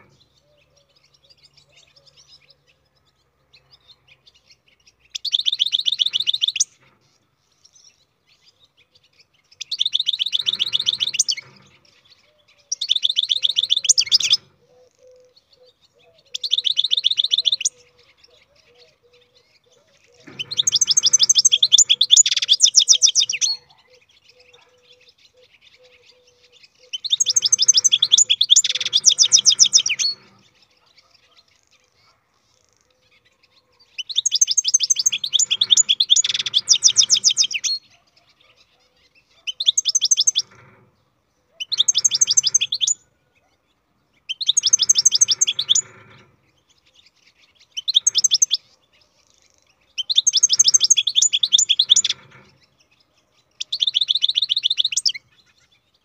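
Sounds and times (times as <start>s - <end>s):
bird twittering trills: 0.0s - 56.0s.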